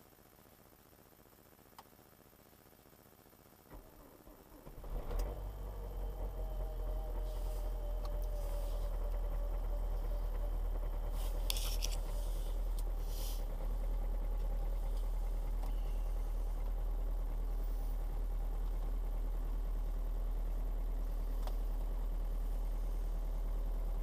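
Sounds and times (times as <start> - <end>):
diesel engine starting and idling: 3.7 - 24.0.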